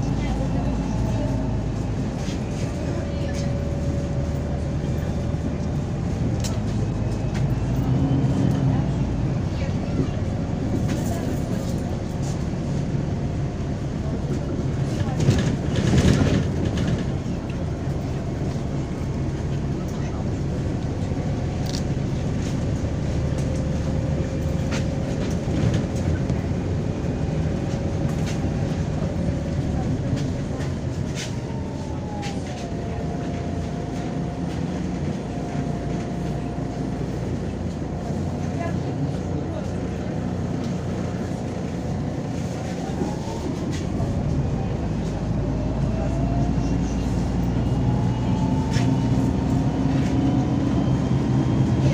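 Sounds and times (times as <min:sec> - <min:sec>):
bus diesel engine: 0:00.0 - 0:51.9
road rumble: 0:00.0 - 0:51.9.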